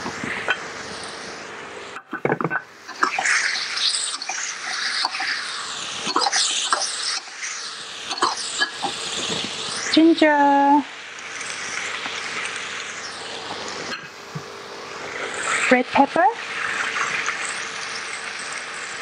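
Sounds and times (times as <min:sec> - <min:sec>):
sauce sizzling and bubbling: 0:00.0 - 0:19.0.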